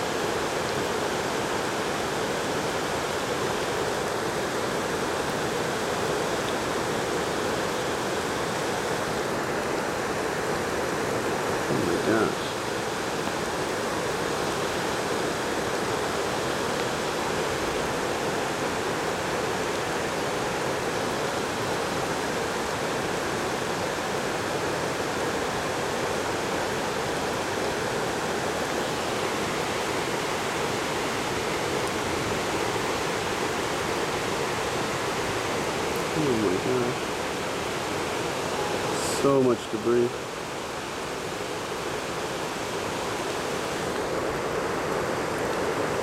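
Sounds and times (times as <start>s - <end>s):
rush of fast-flowing water: 0.0s - 46.0s.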